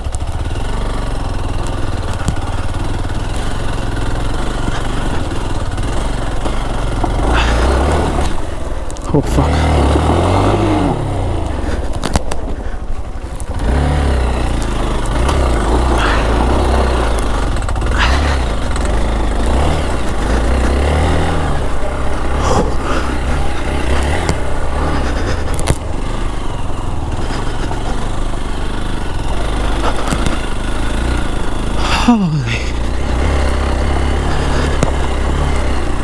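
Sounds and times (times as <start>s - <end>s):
stones clattering under tyres: 0.0s - 9.2s, 9.9s - 31.8s, 32.7s - 36.0s
motorcycle engine pulling hard: 0.0s - 36.0s.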